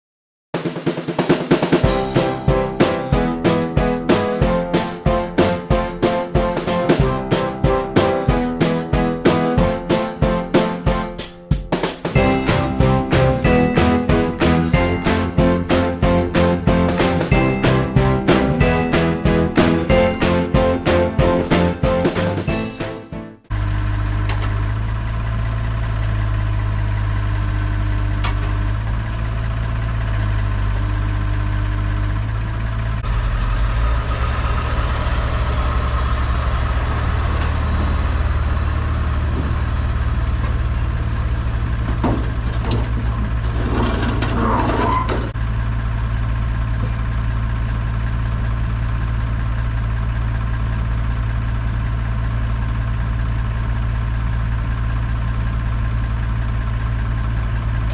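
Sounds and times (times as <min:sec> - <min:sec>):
heavy equipment engine running: 0:01.2 - 0:57.9.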